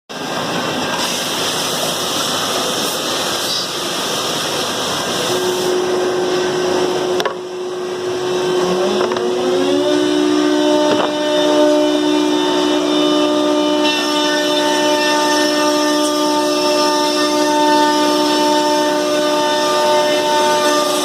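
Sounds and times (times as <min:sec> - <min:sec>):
steady whine: 0:00.1 - 0:21.0
router rushing noise: 0:02.3 - 0:21.0.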